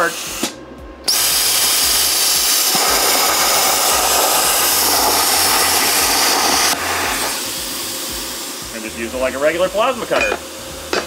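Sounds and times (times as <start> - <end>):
plasma cutter hissing: 0.0 - 11.0.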